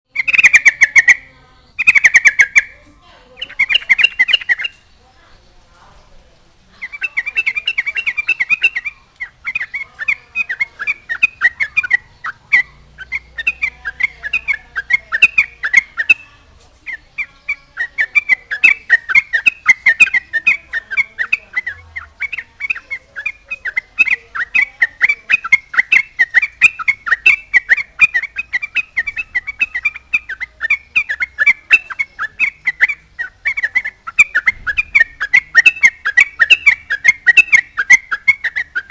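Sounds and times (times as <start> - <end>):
bird singing chattering notes: 0.0 - 38.9.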